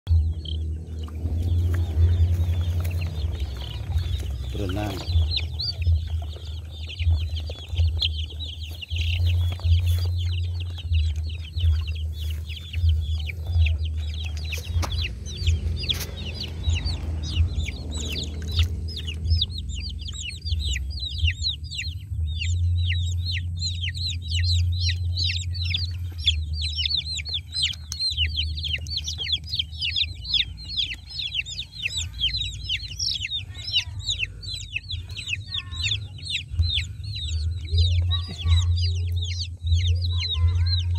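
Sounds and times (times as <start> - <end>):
chicks peeping: 0.1 - 40.9
steady low hum: 0.1 - 40.9.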